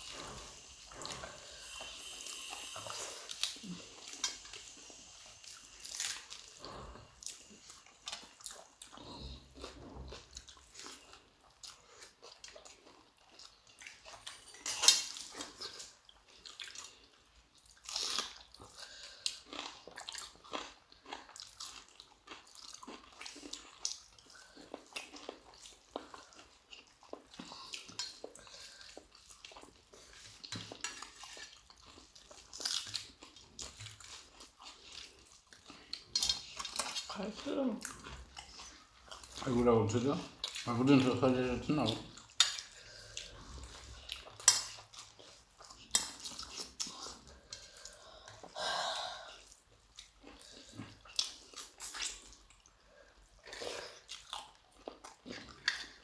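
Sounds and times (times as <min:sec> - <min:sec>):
people chewing crunchy food: 0:00.0 - 0:56.0.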